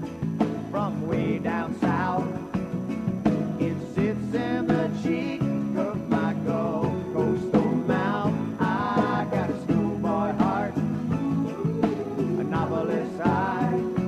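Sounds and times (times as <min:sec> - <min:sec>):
country song with guitar: 0:00.0 - 0:14.0.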